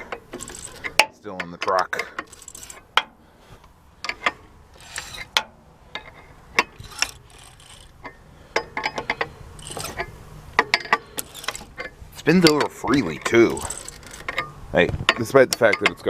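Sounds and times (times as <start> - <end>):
engine turned over by hand: 0.0 - 3.1, 4.0 - 16.0.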